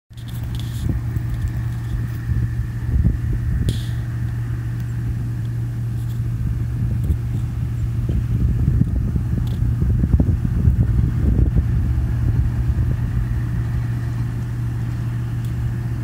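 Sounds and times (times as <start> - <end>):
combine engine drone: 0.1 - 16.0
faint even whine: 0.1 - 16.0.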